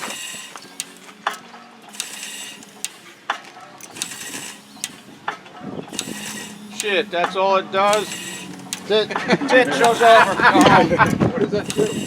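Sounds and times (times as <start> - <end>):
stationary engine clicking and puffing: 0.0 - 12.0.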